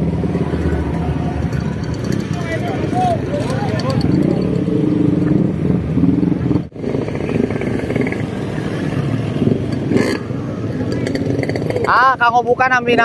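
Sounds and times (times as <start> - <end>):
motor scooter engines running: 0.0 - 13.0
road noise: 0.0 - 13.0.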